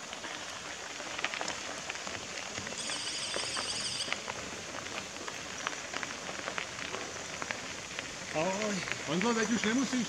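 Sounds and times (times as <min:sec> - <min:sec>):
bicycle tyres crunching on gravel: 0:00.0 - 0:10.0
small clicks of stones: 0:00.0 - 0:10.0.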